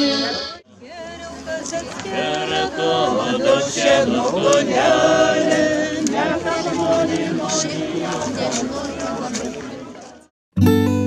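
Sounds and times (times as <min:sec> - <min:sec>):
crowd singing in chorus: 0:00.0 - 0:10.3.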